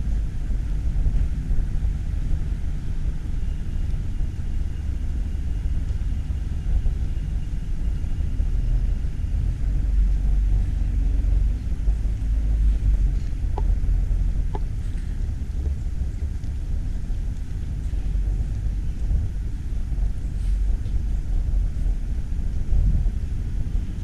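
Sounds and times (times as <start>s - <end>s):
steady low outdoor rumble: 0.0s - 24.0s.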